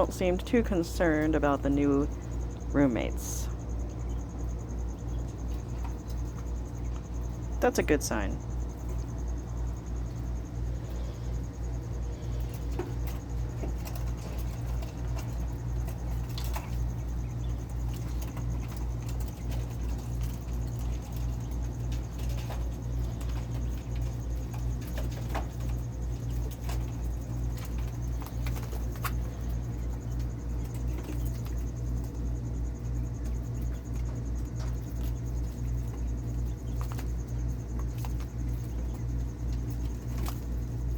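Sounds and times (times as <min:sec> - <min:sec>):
steady low hum: 0:00.0 - 0:40.9
quail peeping: 0:03.2 - 0:40.9.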